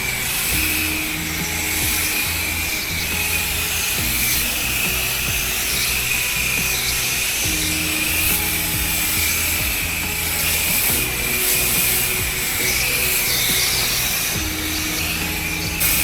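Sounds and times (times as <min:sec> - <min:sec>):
background music: 0:00.0 - 0:16.0
pressure washer hiss and whine: 0:00.0 - 0:16.0.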